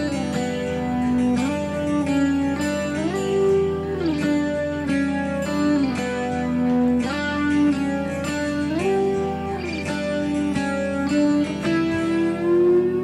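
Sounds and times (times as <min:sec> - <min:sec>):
slide guitar music: 0:00.0 - 0:13.0.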